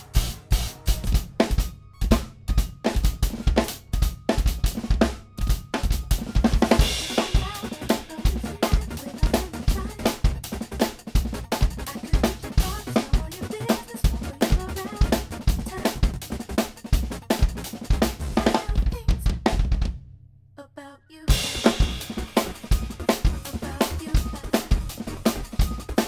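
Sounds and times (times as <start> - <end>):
acoustic drum kit groove: 0.0 - 20.1, 21.3 - 26.0.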